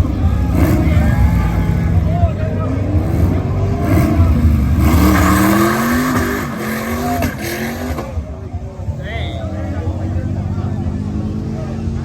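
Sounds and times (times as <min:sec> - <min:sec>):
cars accelerating hard: 0:00.0 - 0:12.0
loud rasping engine: 0:00.0 - 0:12.0.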